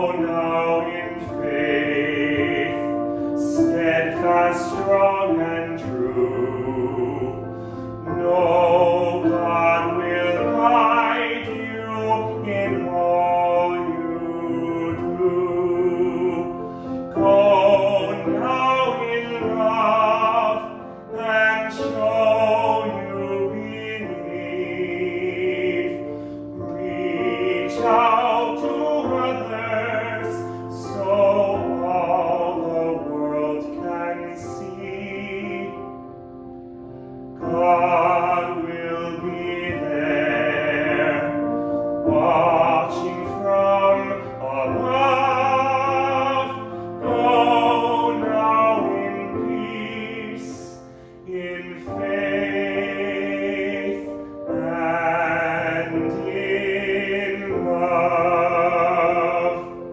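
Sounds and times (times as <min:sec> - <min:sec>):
grand piano accompaniment: 0:00.0 - 0:59.9
person singing a hymn: 0:00.0 - 0:59.9.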